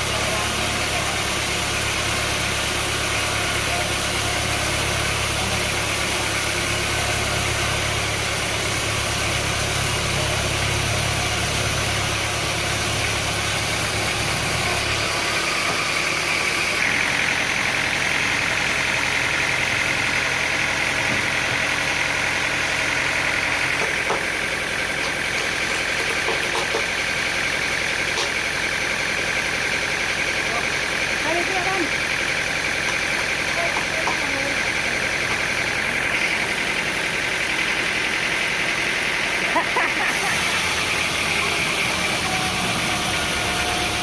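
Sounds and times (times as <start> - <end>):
engine low hum: 0.0 - 44.0.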